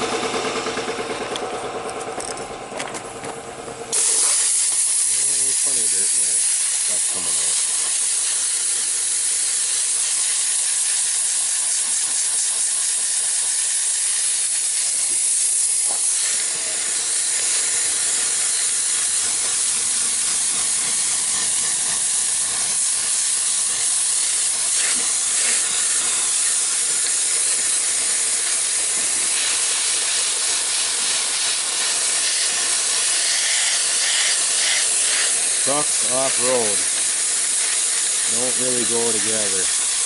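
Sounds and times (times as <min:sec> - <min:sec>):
compressed air blow gun hissing: 0:03.9 - 0:40.0.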